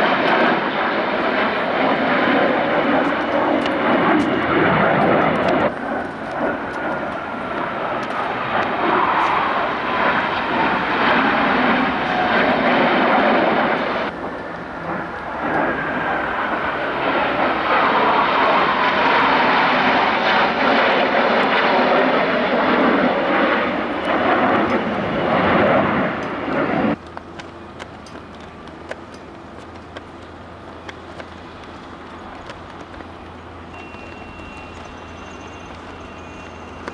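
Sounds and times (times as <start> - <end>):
jets roaring past: 0.0 - 27.0, 31.2 - 36.9.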